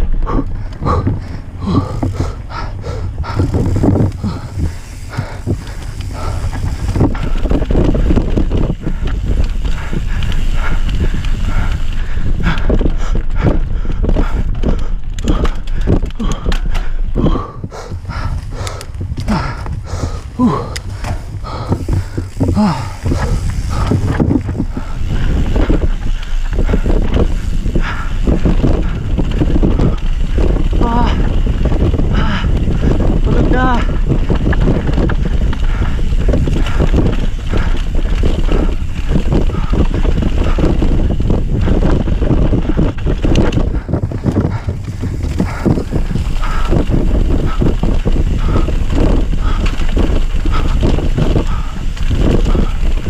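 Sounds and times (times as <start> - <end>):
bike parts rattling and knocking: 0.0 - 53.0
wind buffeting microphone: 0.0 - 53.0.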